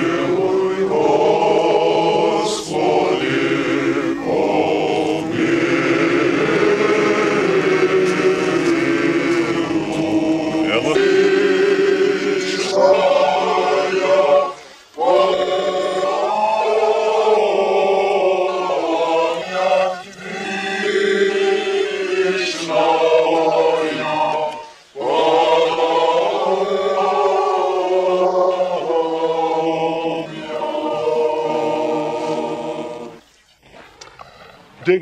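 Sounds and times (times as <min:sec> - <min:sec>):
congregation singing a chant: 0:00.0 - 0:33.3.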